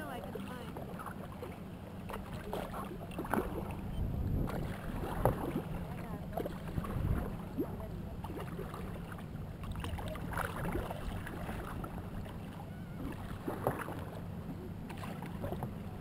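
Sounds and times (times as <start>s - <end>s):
paddle splashing and dripping: 0.0s - 15.9s
low rumble of water and wind: 0.0s - 16.0s.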